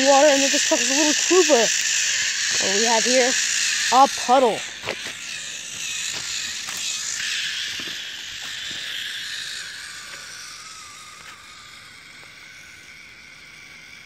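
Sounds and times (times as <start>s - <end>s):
toy electric motor whining: 0.0s - 14.0s.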